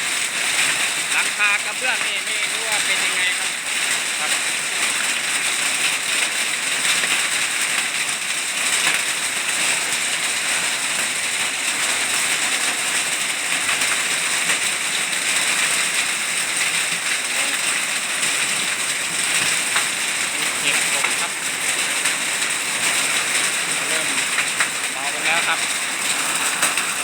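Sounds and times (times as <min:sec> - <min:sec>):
hailstones pelting down: 0:00.0 - 0:27.0
heavy rain: 0:00.0 - 0:27.0.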